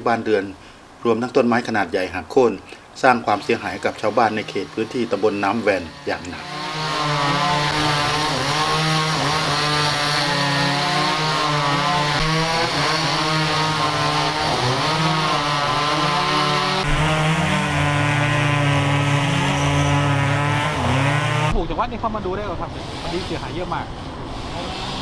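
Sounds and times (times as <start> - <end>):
chainsaw cutting wood: 3.0 - 21.6, 22.6 - 25.0.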